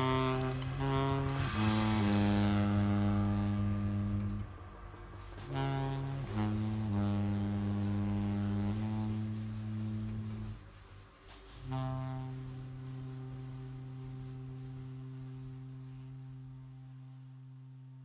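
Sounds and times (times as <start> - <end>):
jazz quartet playing low held notes: 0.0 - 18.0.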